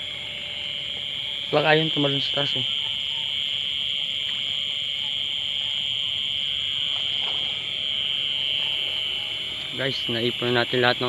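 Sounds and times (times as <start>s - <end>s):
insects chirping shrilly: 0.0s - 11.0s.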